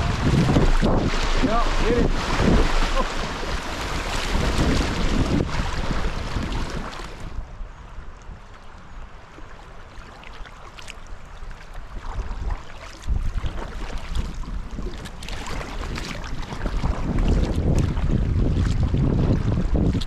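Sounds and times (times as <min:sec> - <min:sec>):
kayak paddle splashing: 0:00.0 - 0:07.4, 0:09.2 - 0:20.0
wind buffeting microphone: 0:00.0 - 0:08.6, 0:11.9 - 0:20.0.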